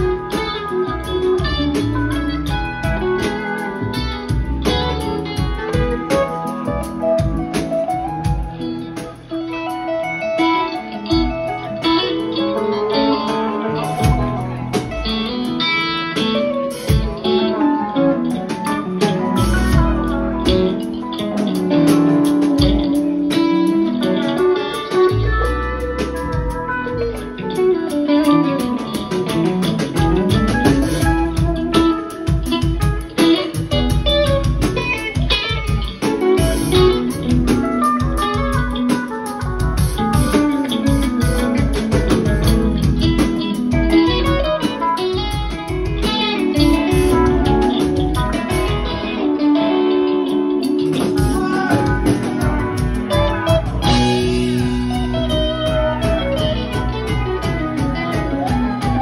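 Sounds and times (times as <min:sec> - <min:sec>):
electric guitars: 0:00.0 - 0:59.0
rock band playing: 0:00.0 - 0:59.0.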